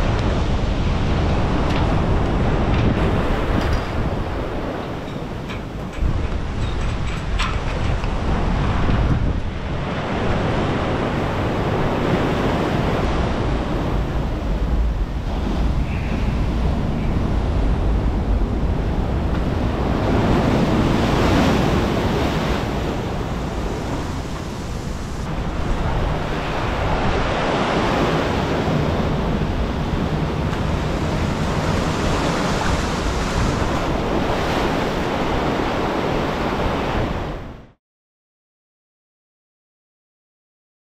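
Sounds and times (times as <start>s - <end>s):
wind buffeting microphone: 0.0s - 37.6s
ocean surf breaking: 0.0s - 37.7s.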